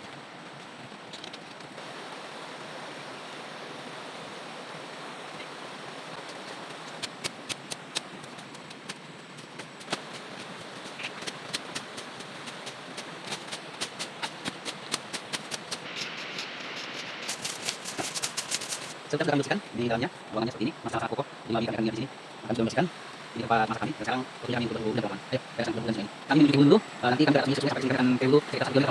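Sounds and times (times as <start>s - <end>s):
water rushing: 0.0s - 28.9s.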